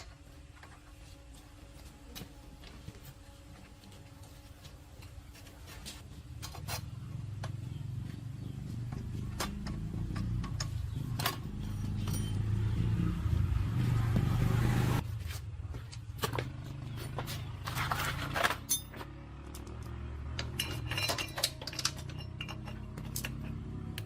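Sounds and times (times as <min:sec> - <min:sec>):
engine running: 0:00.6 - 0:24.0.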